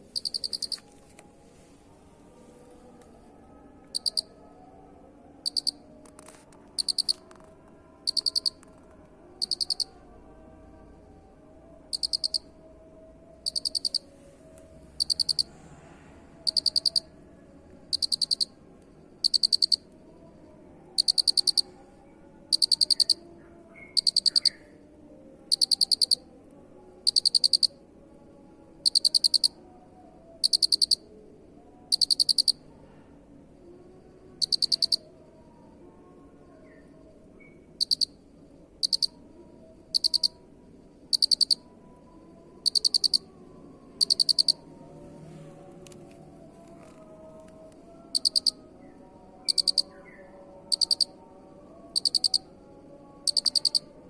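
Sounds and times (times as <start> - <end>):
cricket chirping: 0.0 - 1.0, 2.8 - 54.0.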